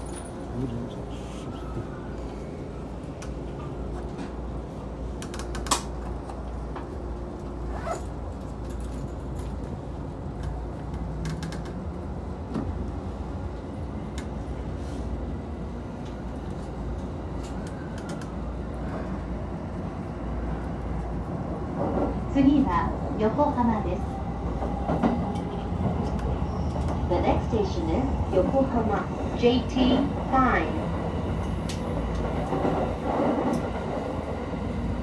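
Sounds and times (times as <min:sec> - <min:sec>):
train rumble inside carriage: 0:00.0 - 0:35.0.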